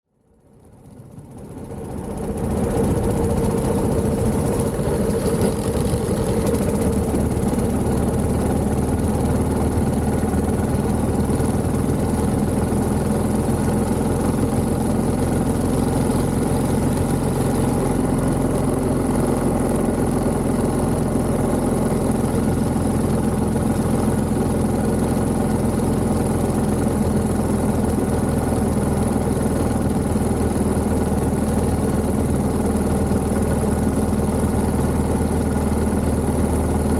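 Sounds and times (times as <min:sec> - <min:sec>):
motorcycle engine running: 0:00.3 - 0:36.9.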